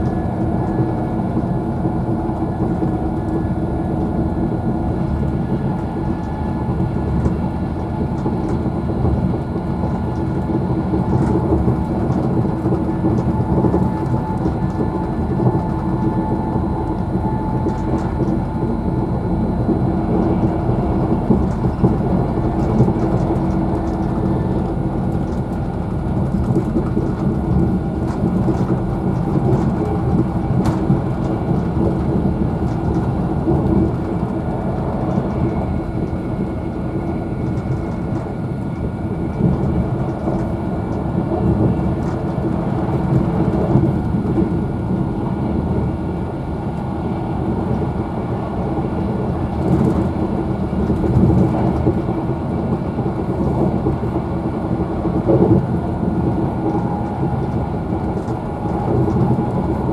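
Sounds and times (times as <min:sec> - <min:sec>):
constant hum: 0:00.0 - 0:59.9
train wheels rumbling on rails: 0:00.0 - 0:59.9.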